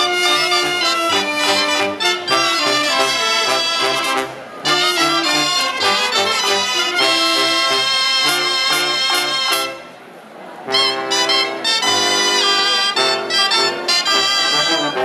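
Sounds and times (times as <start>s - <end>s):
double bass: 0.0s - 10.0s, 10.7s - 15.0s
brass and reed band playing: 0.0s - 10.1s, 10.7s - 15.0s.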